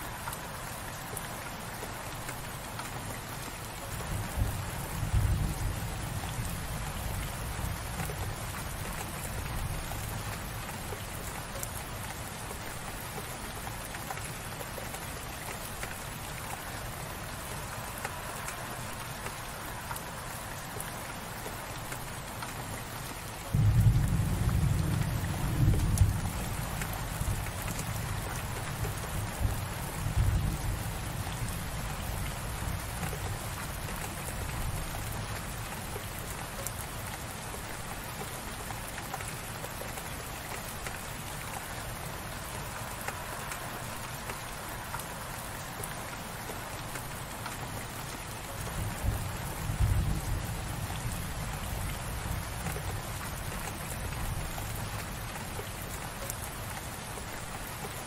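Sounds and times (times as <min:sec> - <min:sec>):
light rain pattering: 0:00.0 - 0:58.0.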